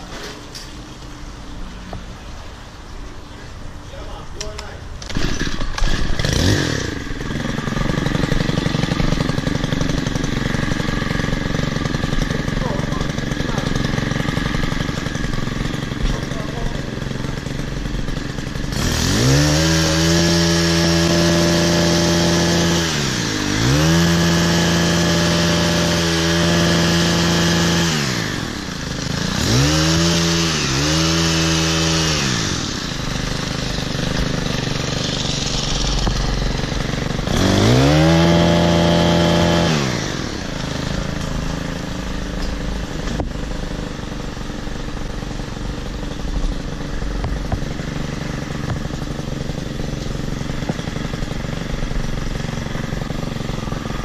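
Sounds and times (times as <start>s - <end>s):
hedge trimmer engine revving: 4.0s - 54.0s.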